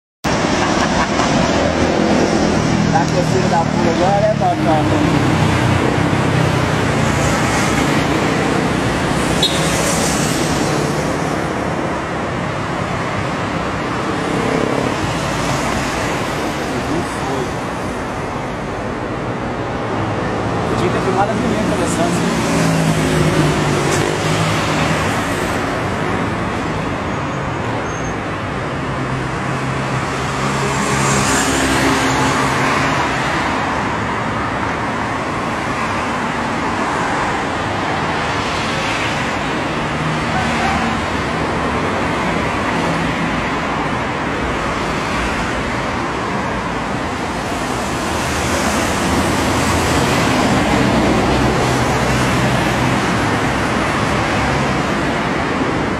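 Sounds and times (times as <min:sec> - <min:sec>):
traffic passing: 0:00.2 - 0:55.9.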